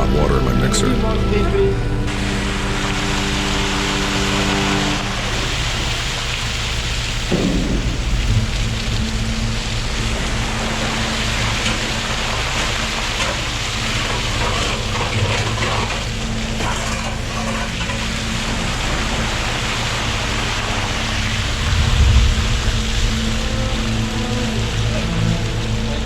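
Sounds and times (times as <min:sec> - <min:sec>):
low hum: 0:00.0 - 0:26.0
water gushing onto road: 0:02.1 - 0:26.0.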